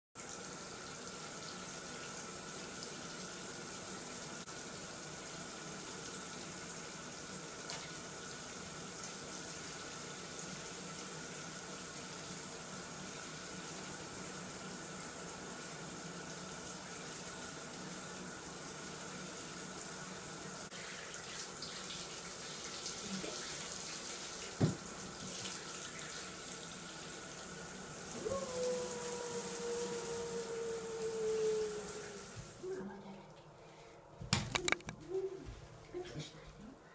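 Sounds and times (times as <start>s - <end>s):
shower spraying water: 0.2s - 32.6s.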